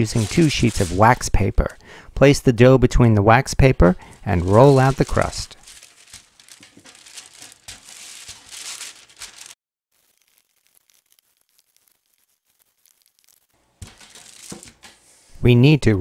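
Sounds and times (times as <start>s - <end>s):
wax paper crinkling: 0.0s - 1.8s, 4.0s - 15.3s.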